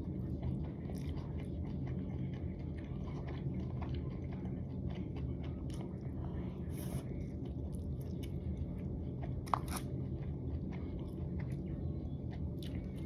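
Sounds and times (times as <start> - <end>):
crunchy chewing of food: 0.0 - 13.0.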